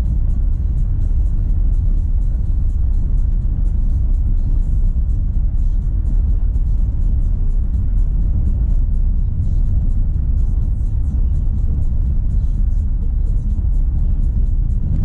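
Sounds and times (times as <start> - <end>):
background music: 0.0 - 15.0
tyres rumbling on dirt road: 0.0 - 15.0.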